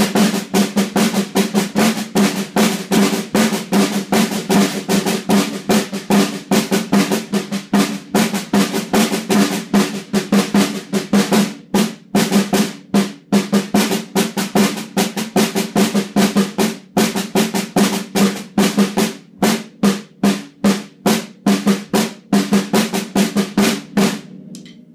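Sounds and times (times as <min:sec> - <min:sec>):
snare drum played with sticks: 0:00.0 - 0:24.8.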